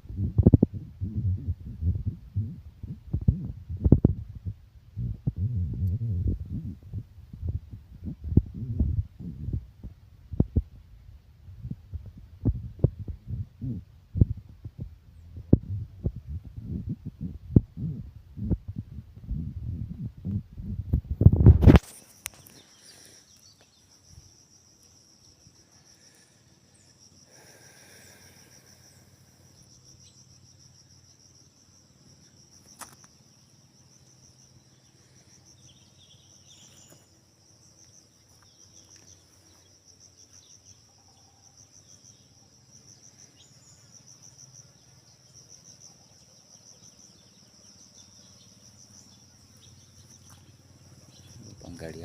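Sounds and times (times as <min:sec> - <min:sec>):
crickets chirring: 0:00.0 - 0:52.0.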